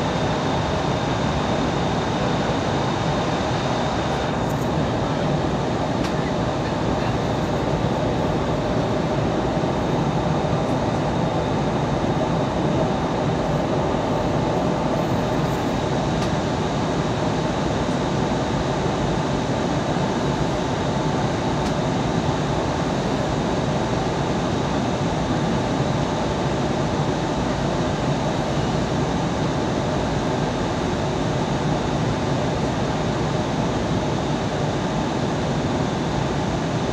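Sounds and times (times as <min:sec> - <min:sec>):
airliner cabin engine rush: 0:00.0 - 0:36.9.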